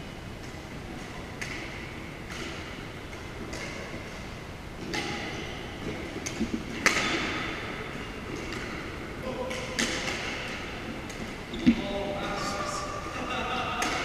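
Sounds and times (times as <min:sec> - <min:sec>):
rackets hitting shuttlecock: 0:00.4 - 0:11.9, 0:13.7 - 0:14.0.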